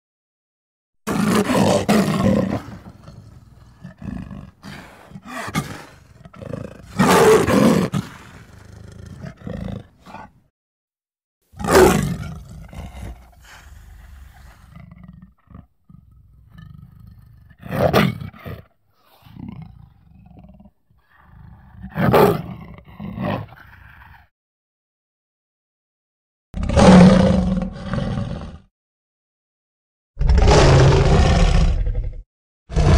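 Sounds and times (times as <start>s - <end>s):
tiger growling: 1.1s - 10.4s, 11.6s - 24.2s, 26.6s - 28.7s, 30.2s - 32.9s
tiger roaring: 1.1s - 10.4s, 11.6s - 24.2s, 26.6s - 28.7s, 30.2s - 32.9s.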